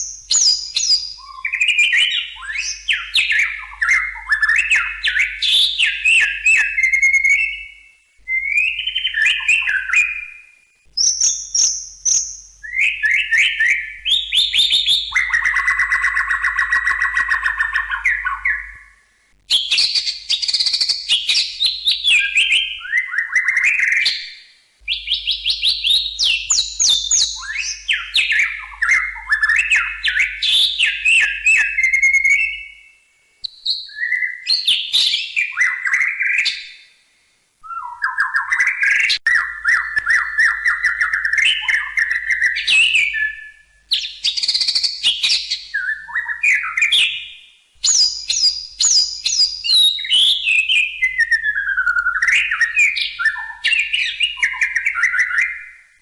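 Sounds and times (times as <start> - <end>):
bird singing whistles and trills: 0.0 - 37.0, 37.6 - 56.0.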